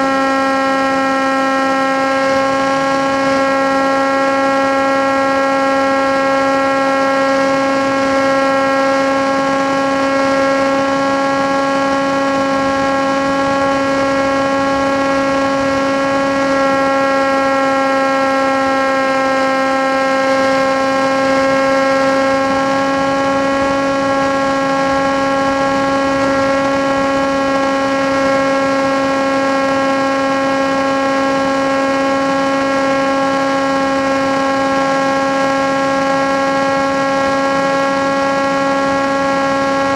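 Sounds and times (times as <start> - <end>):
model aircraft motor droning: 0.0 - 39.9.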